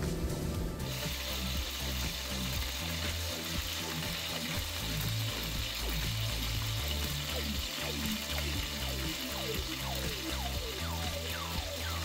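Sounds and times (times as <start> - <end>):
music with low bass notes: 0.0 - 12.0.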